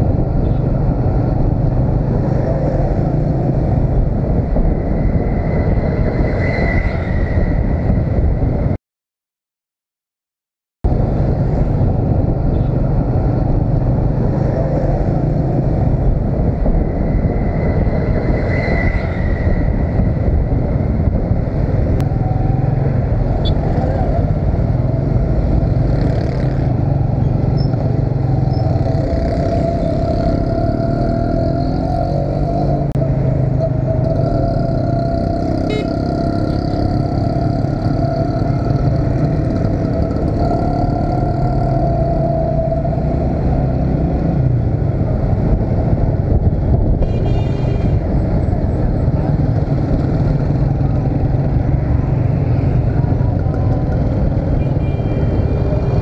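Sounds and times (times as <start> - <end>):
traffic: 0.0 - 8.8, 10.8 - 56.0
wind and road noise: 0.0 - 8.8, 10.8 - 56.0.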